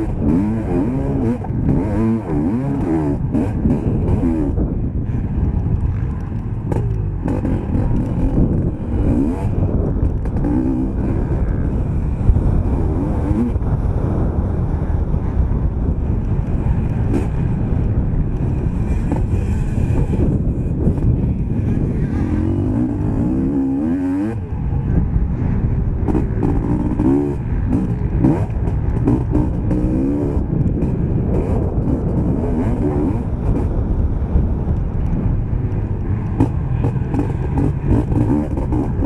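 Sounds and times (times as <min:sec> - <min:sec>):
motocross bike engine racing: 0:00.0 - 0:39.0.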